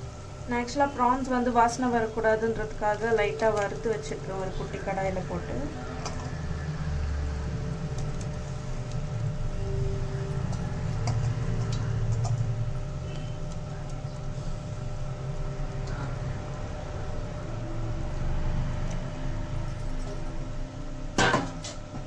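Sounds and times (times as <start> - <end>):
pot boiling with low rumble: 0.0 - 22.0.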